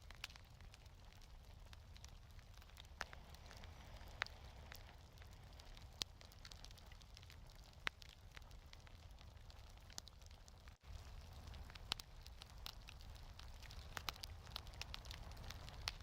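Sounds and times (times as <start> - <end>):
low steady fire rumble: 0.0 - 16.0
wood fire crackling: 0.0 - 16.0.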